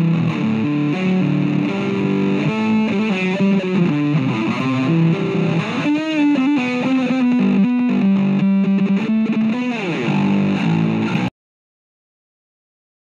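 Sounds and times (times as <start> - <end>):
electric bass guitar: 0.0 - 11.3.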